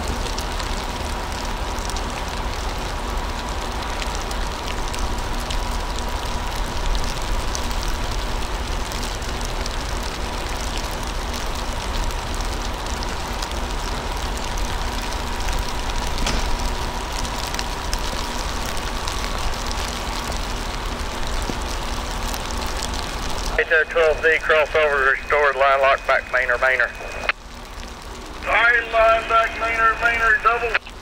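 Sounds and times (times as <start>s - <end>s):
constant hiss: 0.0s - 31.0s
faint steady hum: 0.0s - 31.0s.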